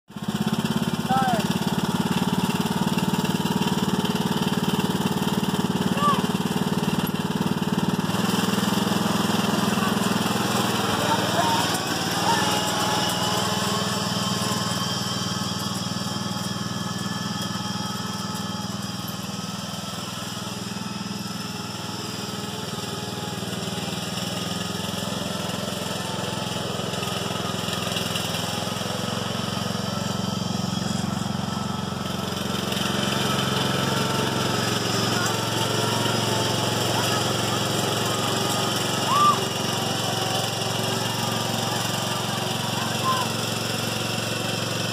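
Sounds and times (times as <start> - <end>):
riding lawn mower engine: 0.1 - 44.9.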